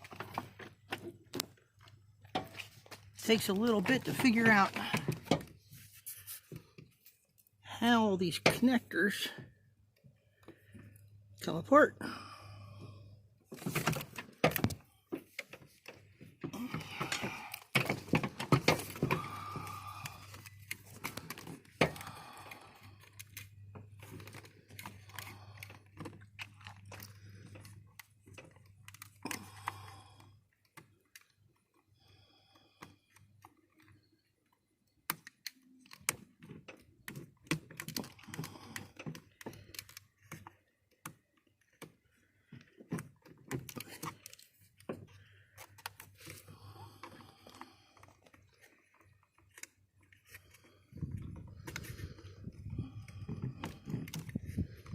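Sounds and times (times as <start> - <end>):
plastic parts clicking and rattling: 0.0 - 7.6, 13.4 - 54.9.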